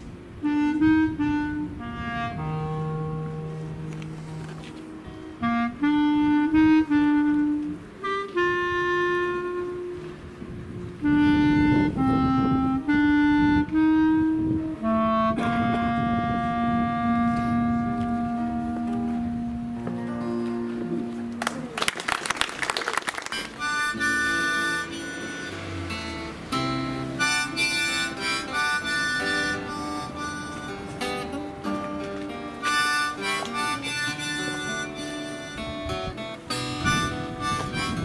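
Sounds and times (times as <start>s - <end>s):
solo clarinet melody: 0.3s - 21.4s, 23.3s - 38.0s.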